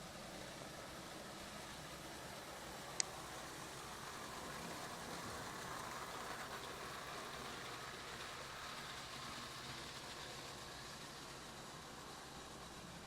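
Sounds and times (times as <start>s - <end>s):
toy train whirring and rattling: 0.0s - 13.0s.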